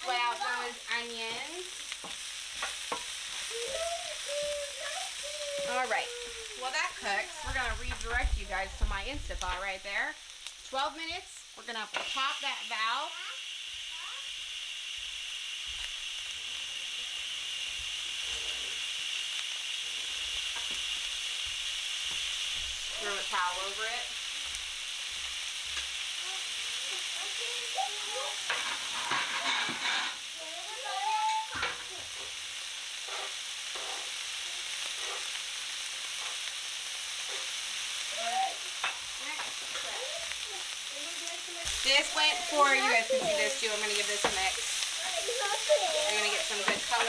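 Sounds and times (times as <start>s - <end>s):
steam venting hiss: 0.0s - 47.0s
vegetables sizzling in oil: 0.0s - 47.0s.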